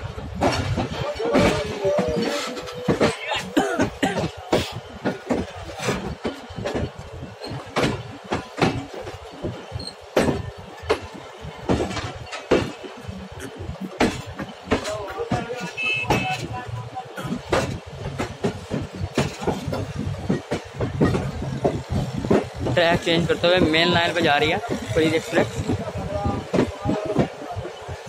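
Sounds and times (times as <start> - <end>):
train coach knocks and rattles: 0.0 - 28.0.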